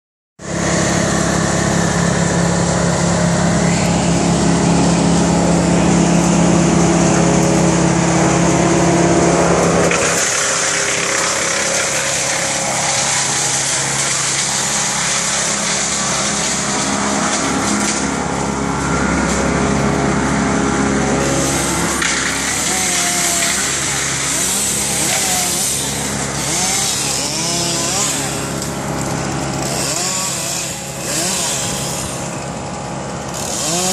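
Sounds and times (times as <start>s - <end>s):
chainsaw revving: 0.4s - 33.9s
engine running: 0.4s - 33.9s.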